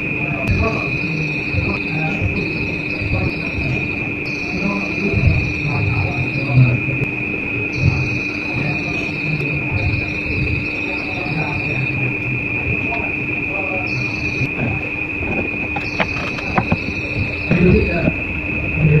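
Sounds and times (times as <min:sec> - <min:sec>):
insect higher trill: 0:00.0 - 0:19.0
insect steady high trill: 0:00.0 - 0:19.0
low murmur: 0:00.0 - 0:19.0.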